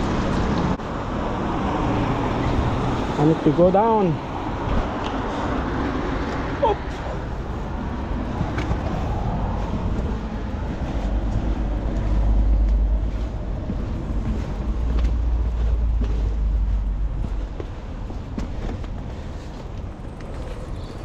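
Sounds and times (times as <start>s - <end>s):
wind buffeting microphone: 4.0s - 21.0s.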